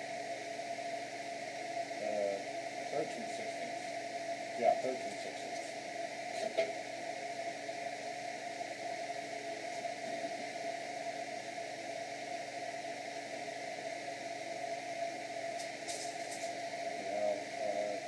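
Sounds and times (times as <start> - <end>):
motor humming and hissing: 0.0 - 18.0.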